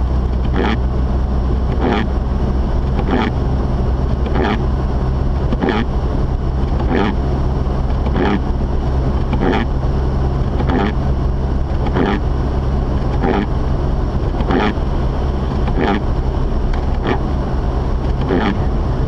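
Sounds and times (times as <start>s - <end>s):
car engine and tyres droning: 0.0s - 19.0s
windscreen wiper swishing: 1.7s - 2.2s, 2.8s - 12.2s, 13.0s - 19.0s.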